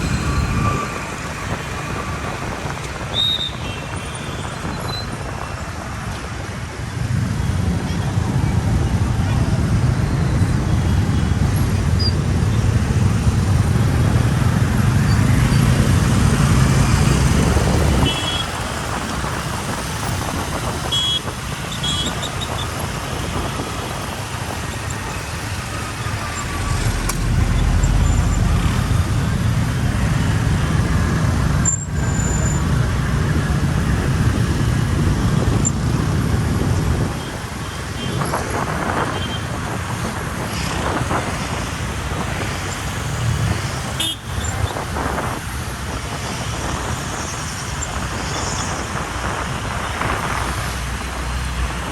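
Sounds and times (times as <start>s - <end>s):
car engine and road noise: 0.0s - 51.9s.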